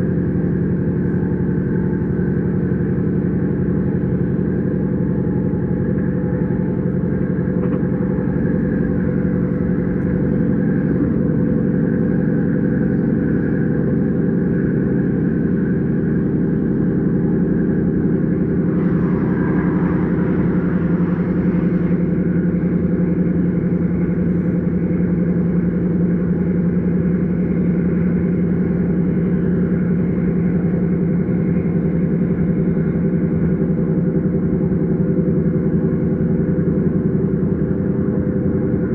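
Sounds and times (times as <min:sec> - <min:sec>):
electric train hum and rumble: 0:00.0 - 0:38.9.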